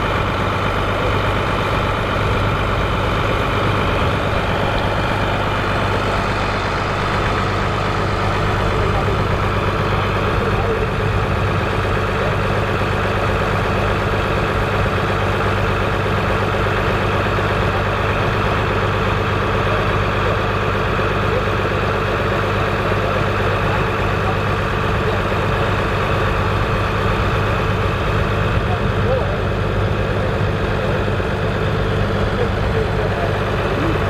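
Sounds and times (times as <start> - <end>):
tractor diesel engine idling: 0.0 - 34.0.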